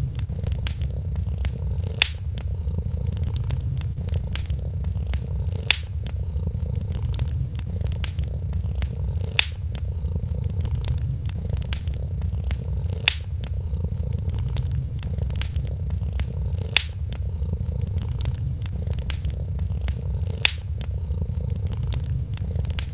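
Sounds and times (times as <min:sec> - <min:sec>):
cat purring: 0:00.0 - 0:22.9
wood fire crackling and popping: 0:00.0 - 0:22.9.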